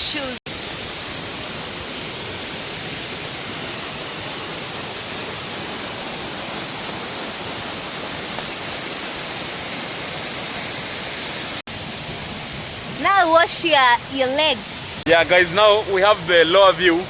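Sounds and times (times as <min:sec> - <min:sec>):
waterfall rushing: 0:00.5 - 0:17.0.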